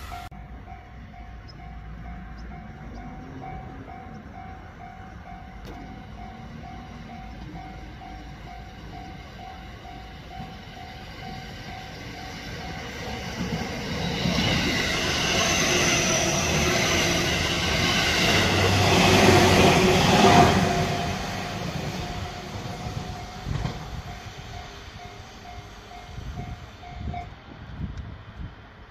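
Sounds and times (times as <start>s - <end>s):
electric train passing: 0.0s - 28.9s.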